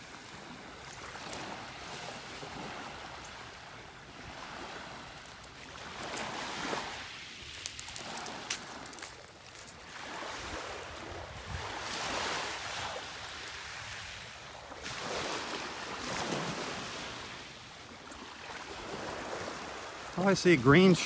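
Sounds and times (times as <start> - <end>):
waves lapping on beach: 0.0 - 21.0.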